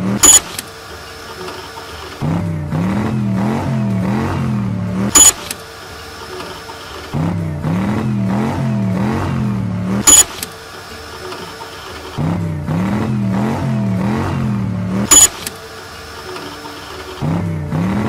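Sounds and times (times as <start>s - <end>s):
cartoon toy car engine hum: 0.0s - 18.0s.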